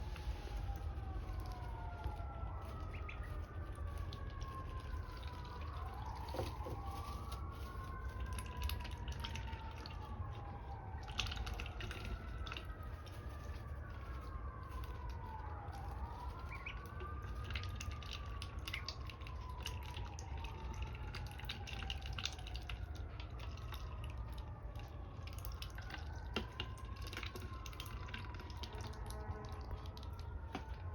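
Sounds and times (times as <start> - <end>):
siren wailing: 0.0 - 30.9.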